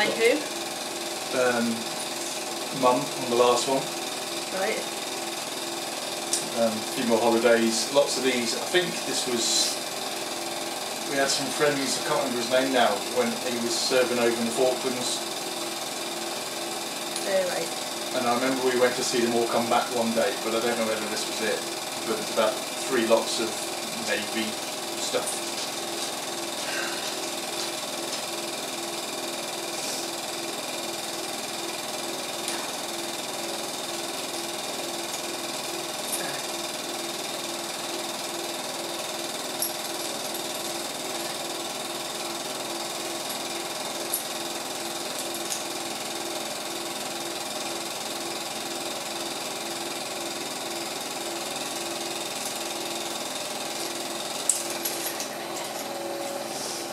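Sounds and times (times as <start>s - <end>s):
film projector mechanical chatter: 0.0s - 56.9s.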